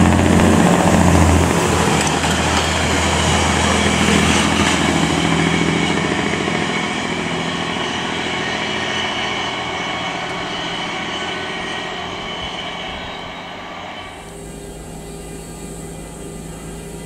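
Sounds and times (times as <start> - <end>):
diesel railcar engine: 0.0 - 17.0
train wheel noise: 0.0 - 17.0.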